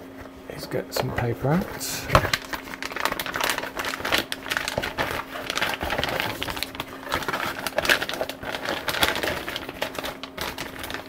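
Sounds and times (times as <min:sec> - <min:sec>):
faint steady hum: 0:00.0 - 0:11.0
paper packet rustling and crinkling: 0:00.5 - 0:11.0.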